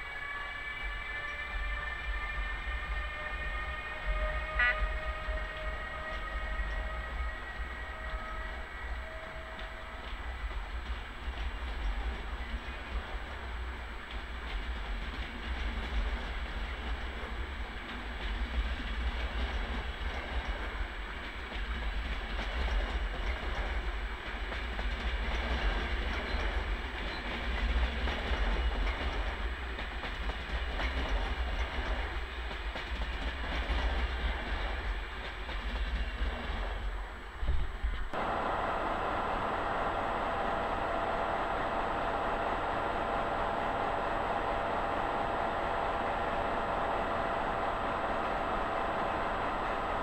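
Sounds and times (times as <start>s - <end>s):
train coaches rumbling past: 0.0s - 50.0s.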